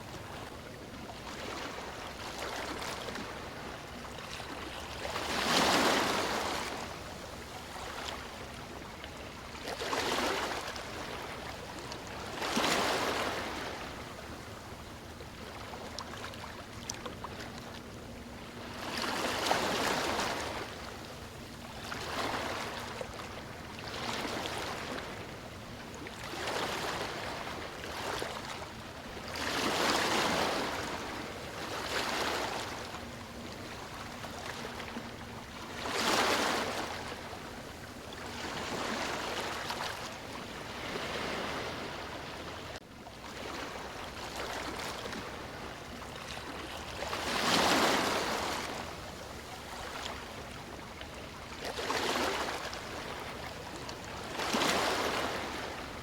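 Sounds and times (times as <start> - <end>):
sea waves breaking on beach: 1.2 - 8.7, 12.1 - 14.2, 18.6 - 25.4, 26.1 - 56.0.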